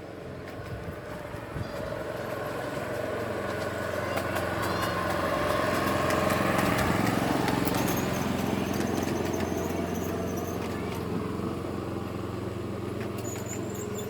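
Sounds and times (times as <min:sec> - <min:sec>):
miniature locomotive engine running: 0:00.0 - 0:14.0.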